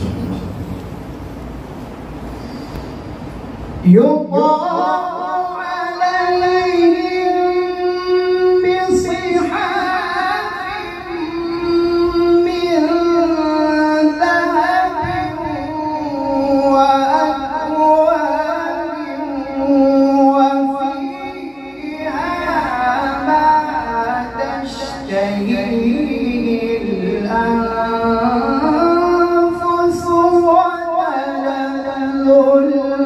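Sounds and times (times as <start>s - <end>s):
man chanting melodically: 3.8s - 33.0s.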